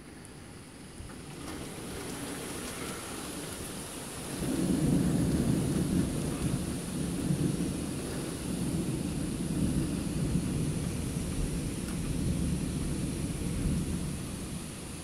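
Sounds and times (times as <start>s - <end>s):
rain hissing: 0.0s - 15.0s
thunder rumbling: 1.3s - 15.0s.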